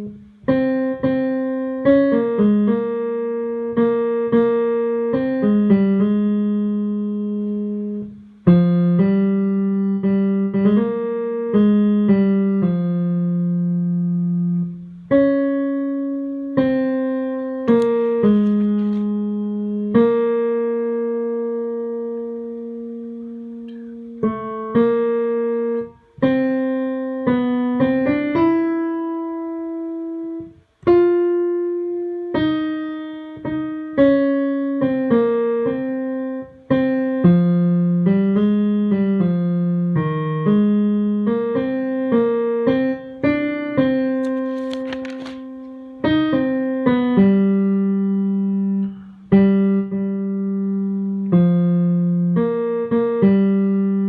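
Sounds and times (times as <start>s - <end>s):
piano melody: 0.0s - 54.0s.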